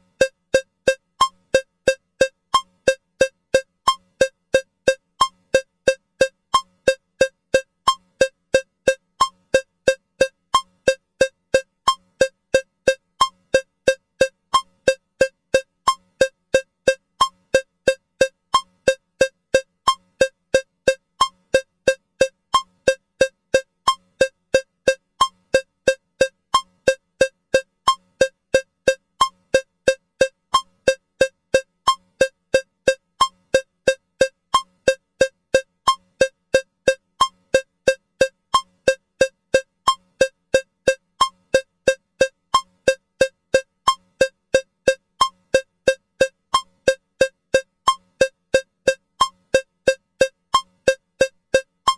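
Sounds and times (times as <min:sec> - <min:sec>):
metronome cowbell clicks: 0:00.0 - 0:51.9.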